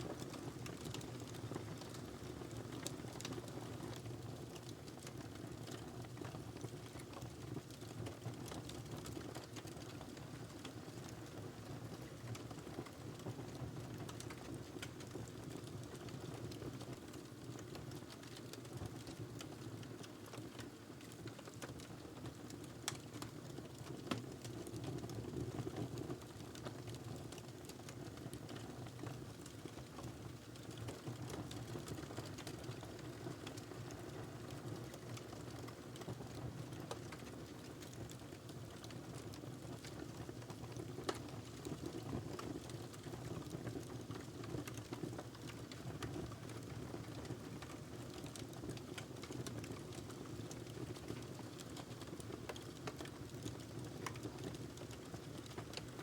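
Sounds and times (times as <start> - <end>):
wood fire crackling: 0.0 - 11.1, 12.2 - 56.0.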